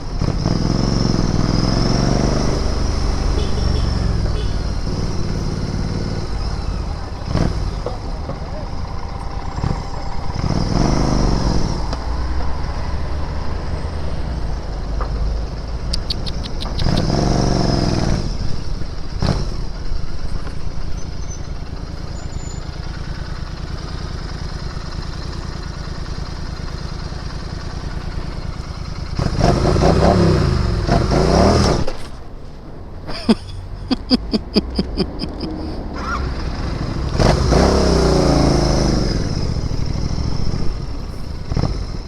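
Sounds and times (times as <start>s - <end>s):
motorcycle engine revving: 0.0s - 32.2s, 33.1s - 42.0s.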